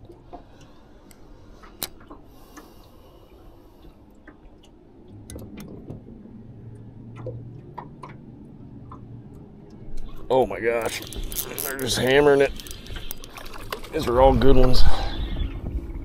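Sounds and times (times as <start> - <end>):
fishing gear clicking in metal boat: 0.0 - 2.8, 4.2 - 16.0
faint water sounds: 0.0 - 16.0.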